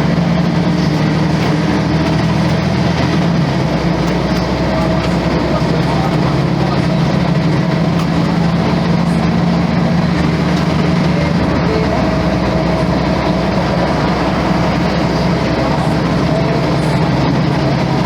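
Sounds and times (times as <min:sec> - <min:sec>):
diesel bus engine droning: 0:00.0 - 0:18.0.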